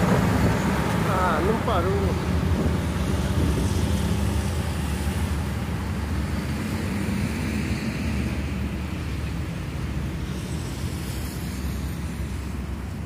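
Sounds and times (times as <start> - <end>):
bus diesel engine rumble: 0.0 - 13.0
road traffic hiss: 0.0 - 13.0.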